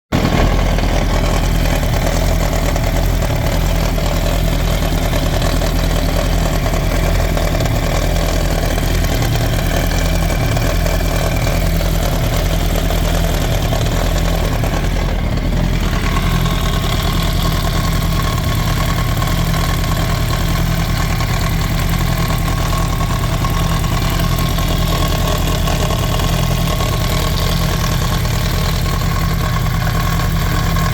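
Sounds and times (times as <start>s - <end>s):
motorcycle engine idling: 0.1s - 30.9s
grinding rattling noise: 0.2s - 30.9s.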